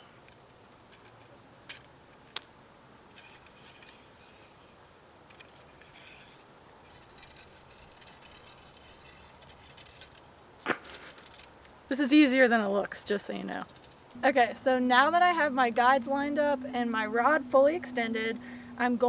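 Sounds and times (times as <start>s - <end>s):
rod sections scraping and ticking: 3.1s - 19.0s.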